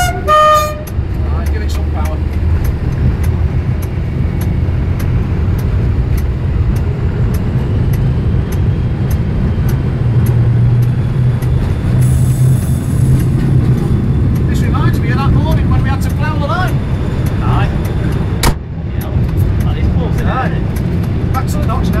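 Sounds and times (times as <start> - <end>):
diesel engine drone: 0.0 - 22.0
light ticking: 0.0 - 22.0.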